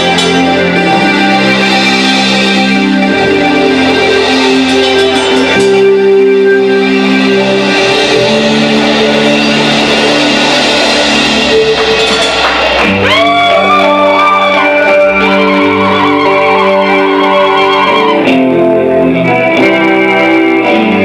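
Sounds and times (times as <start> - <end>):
bass guitar: 0.0 - 21.0
drums: 0.0 - 21.0
electric guitars: 0.0 - 21.0.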